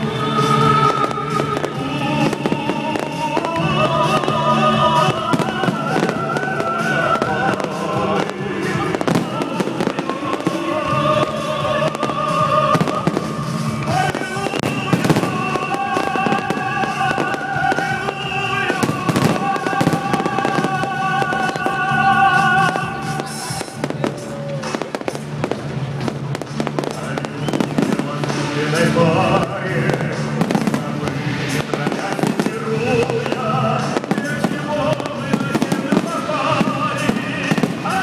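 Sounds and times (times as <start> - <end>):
fireworks bursting with sharp bangs: 0.0 - 38.0
fireworks crackling: 0.0 - 38.0
music with long held notes: 0.0 - 38.0.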